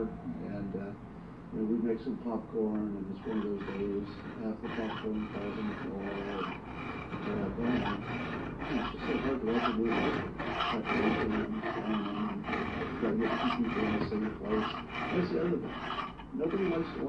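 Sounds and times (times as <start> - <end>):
file rasping on steel blade: 2.8 - 17.0.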